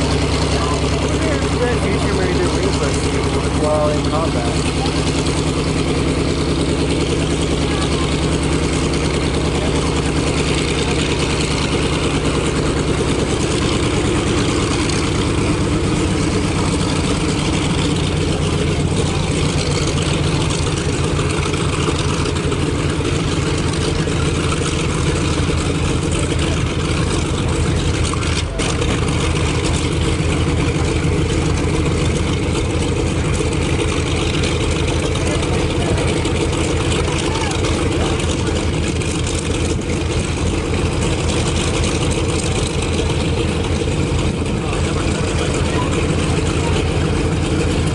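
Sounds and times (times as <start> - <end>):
radial aircraft engine idling: 0.0 - 47.9.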